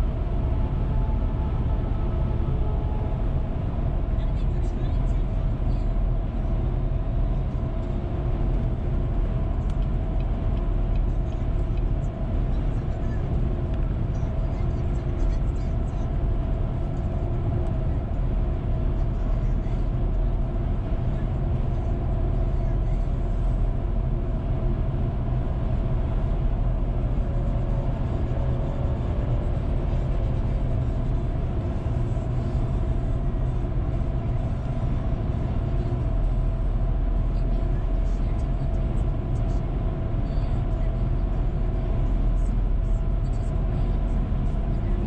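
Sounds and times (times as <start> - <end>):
car road noise drone: 0.0 - 45.0.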